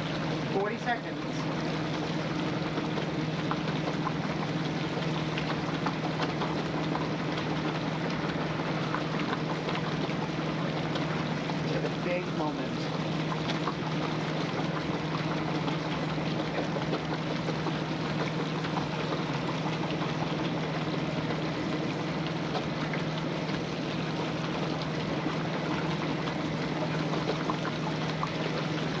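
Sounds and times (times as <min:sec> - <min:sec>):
laundry machine churning: 0:00.0 - 0:29.0
laundry machine motor hum: 0:00.0 - 0:29.0.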